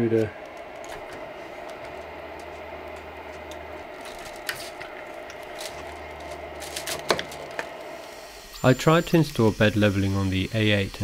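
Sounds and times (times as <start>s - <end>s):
lower hum: 0.0s - 11.0s
printer humming: 0.0s - 11.0s.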